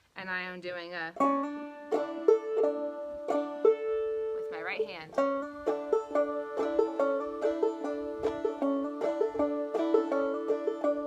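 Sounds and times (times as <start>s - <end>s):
banjo plucked notes: 0.9s - 11.0s.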